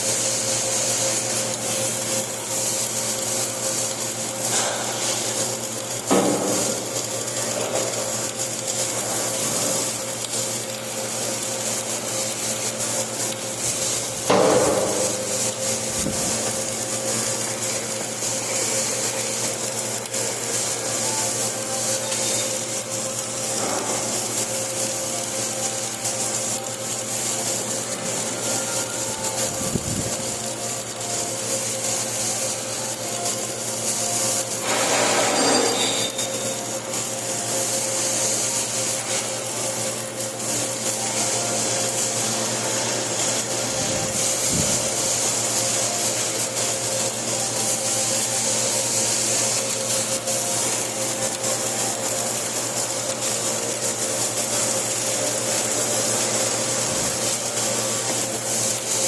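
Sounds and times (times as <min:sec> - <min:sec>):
welding arc crackling hiss: 0:00.0 - 0:59.0.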